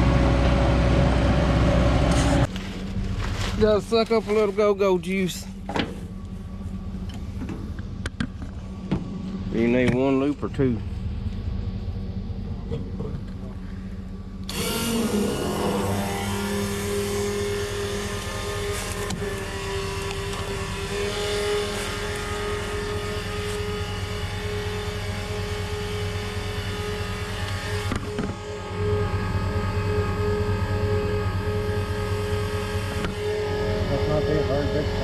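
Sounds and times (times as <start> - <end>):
motor humming: 5.2 - 35.0.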